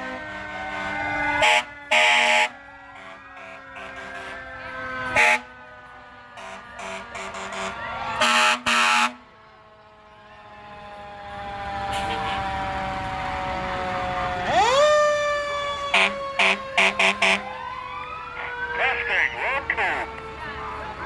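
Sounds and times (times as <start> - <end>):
fire truck air horns: 0.0 - 9.4, 11.8 - 20.8
fire engine siren: 0.0 - 21.0.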